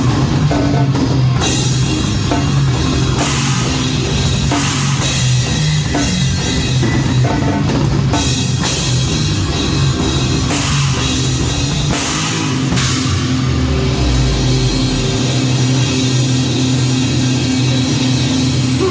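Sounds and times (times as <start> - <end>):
crashing cymbals: 0.0 - 18.9
heavy metal band playing: 0.0 - 18.9
rapid drum hits: 0.0 - 18.9.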